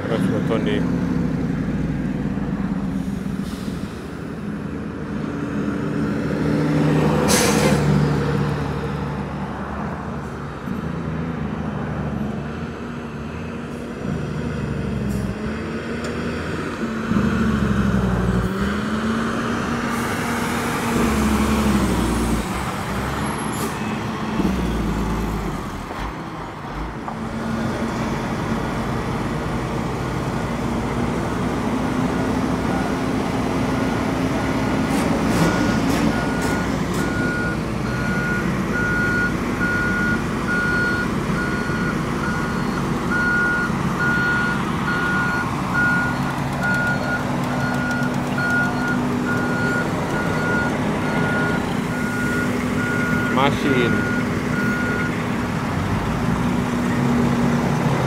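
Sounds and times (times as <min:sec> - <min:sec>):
diesel truck engines revving: 0:00.0 - 0:58.0.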